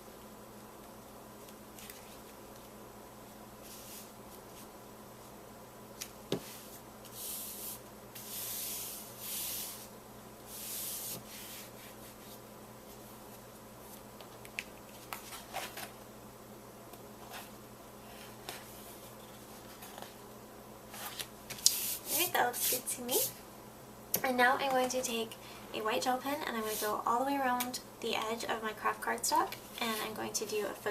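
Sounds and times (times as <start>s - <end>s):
faint electrical hum: 0.0s - 30.9s.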